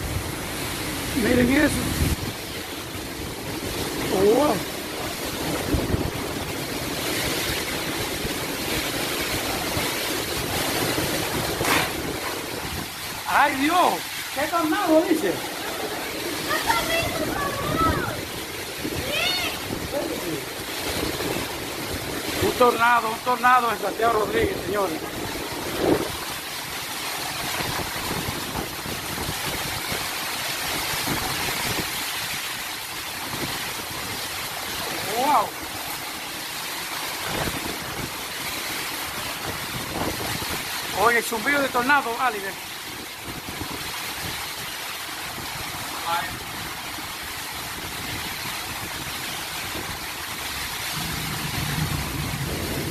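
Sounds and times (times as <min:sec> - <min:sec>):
wind gusts rumbling on microphone: 0:00.0 - 0:41.8, 0:42.4 - 0:52.9
heavy rain falling: 0:00.0 - 0:52.9
wind rushing through trees: 0:00.0 - 0:52.9.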